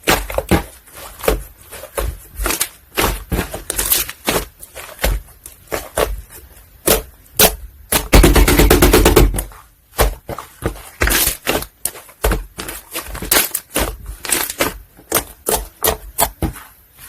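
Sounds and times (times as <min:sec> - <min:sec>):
slime being pressed and stretched: 0:00.0 - 0:08.4, 0:09.2 - 0:16.9.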